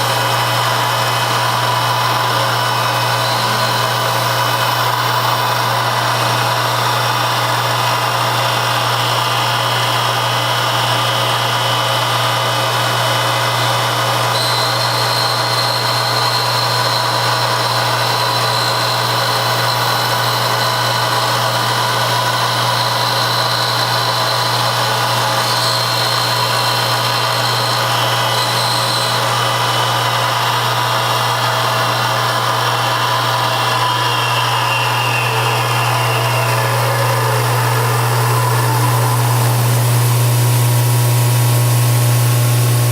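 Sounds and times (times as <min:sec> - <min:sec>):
high machine whine: 0:00.0 - 0:42.9
machine tool running: 0:00.0 - 0:42.9.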